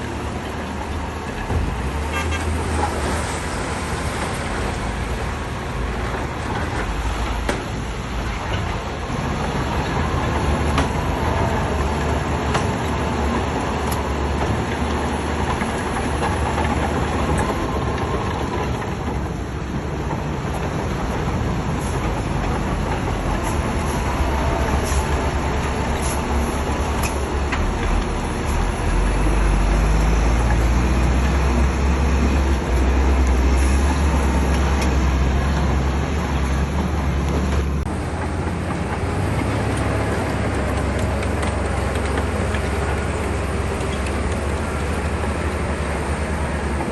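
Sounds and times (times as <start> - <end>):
bulldozer diesel engine under load: 0.0 - 46.9
steel tracks clattering: 0.0 - 46.9.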